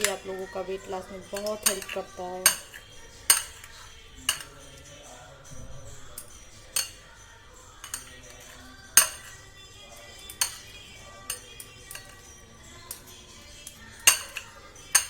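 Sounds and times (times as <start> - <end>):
spoon clinking against a bowl: 0.0 - 15.0.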